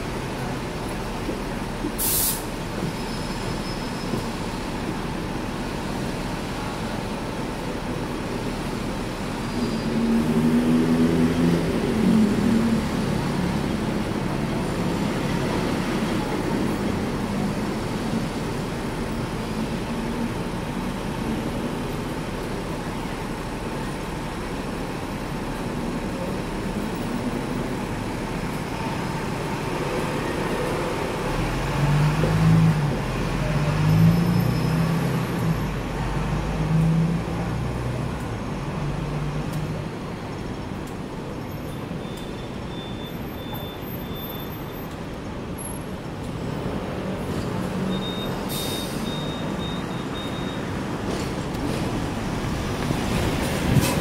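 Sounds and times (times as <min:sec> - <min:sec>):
tram and road noise: 0:00.0 - 0:54.0.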